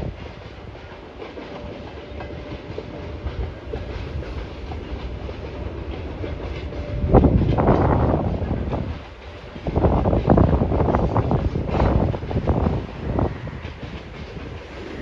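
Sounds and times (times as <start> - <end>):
freight train rumble: 0.0 - 15.0
train wheels clicking over rail joints: 0.0 - 15.0.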